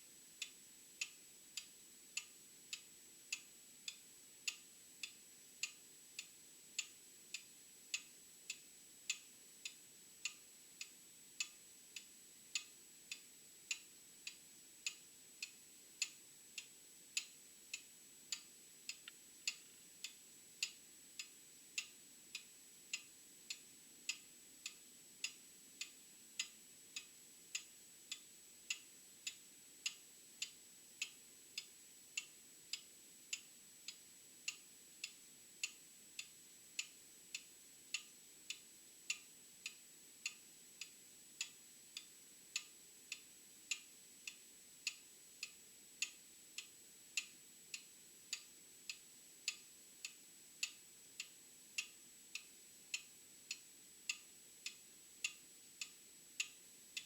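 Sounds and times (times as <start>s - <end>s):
mechanical clock ticking: 0.4s - 57.0s.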